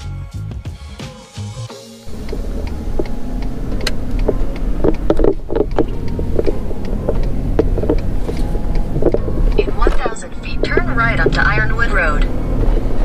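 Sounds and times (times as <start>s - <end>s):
truck engine and road noise: 2.0s - 13.0s.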